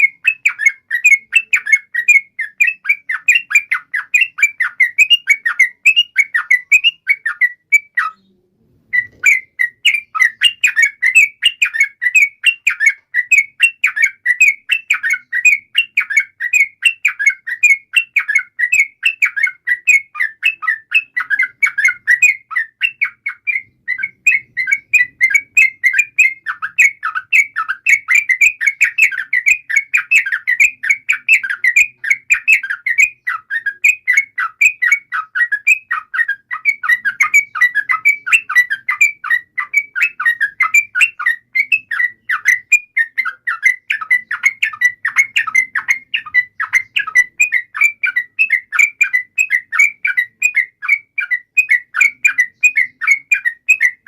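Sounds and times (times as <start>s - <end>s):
bird singing rapid chirps: 0.0s - 54.0s.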